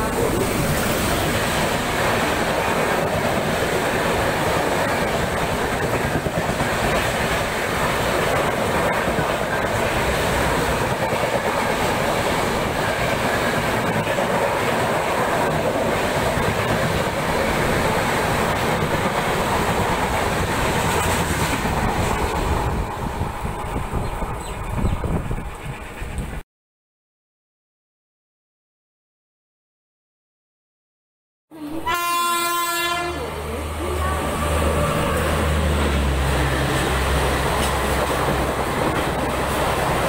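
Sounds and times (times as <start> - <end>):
train wheels rushing on rail: 0.0 - 26.4, 31.9 - 40.0.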